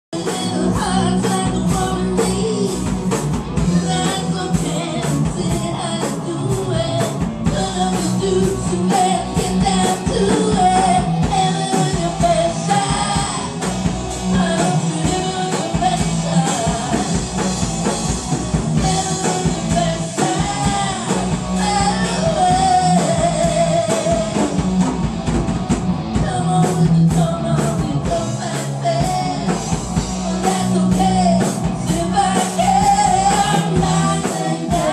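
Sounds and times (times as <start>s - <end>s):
rock band playing: 0.1s - 34.9s
person singing: 0.2s - 17.5s, 18.8s - 24.6s, 26.2s - 34.9s.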